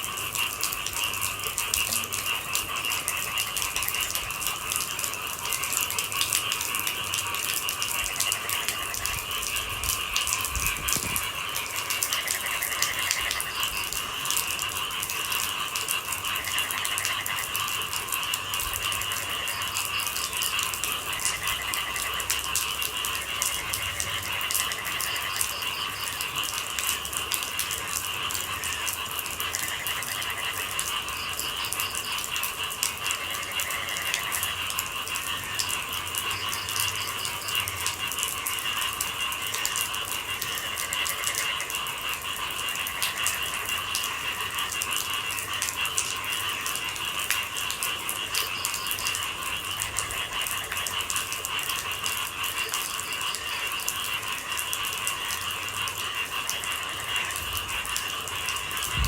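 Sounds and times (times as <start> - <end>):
chorus of night animals: 0.0 - 59.0
rain pattering: 0.0 - 59.0.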